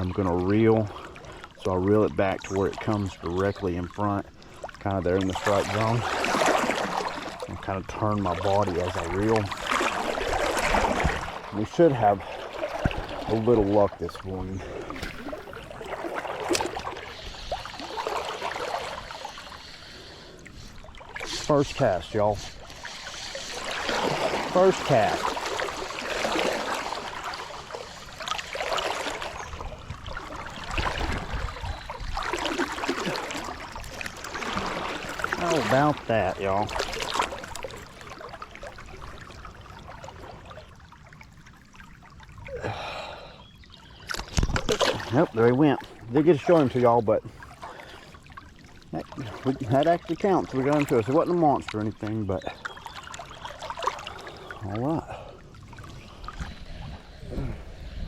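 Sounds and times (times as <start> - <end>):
river water gurgling: 0.0 - 58.0.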